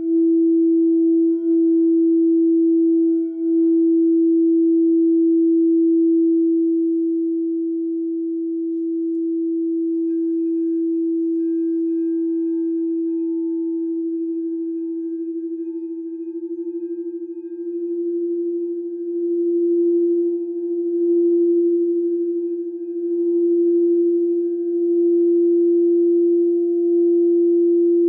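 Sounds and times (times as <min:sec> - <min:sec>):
higher-pitched singing bowl: 0:00.0 - 0:28.0
low singing bowl tone: 0:00.0 - 0:28.0.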